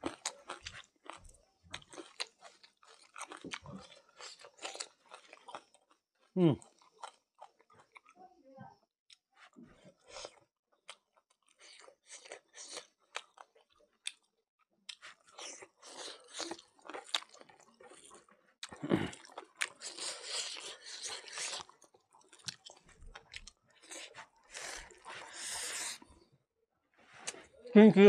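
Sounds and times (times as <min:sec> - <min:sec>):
person chewing and crunching food: 0:00.0 - 0:08.2, 0:09.1 - 0:26.3.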